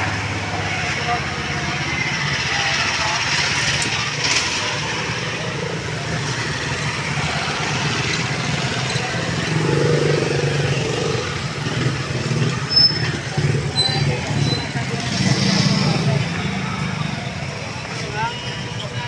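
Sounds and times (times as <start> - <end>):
motorcycle engines running: 0.0 - 19.0
street traffic: 0.0 - 19.0.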